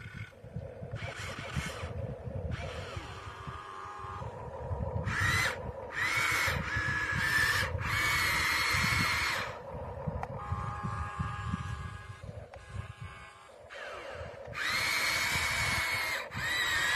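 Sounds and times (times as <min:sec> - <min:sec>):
small electric motor whining: 0:00.0 - 0:16.9.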